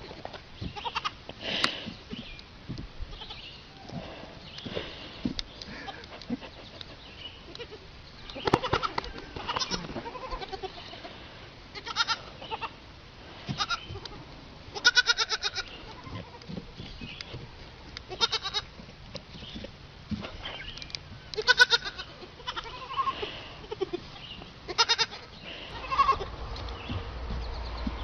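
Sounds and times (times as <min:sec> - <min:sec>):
young animals calling: 0:00.0 - 0:02.4, 0:03.1 - 0:17.4, 0:18.0 - 0:18.7, 0:19.4 - 0:28.0.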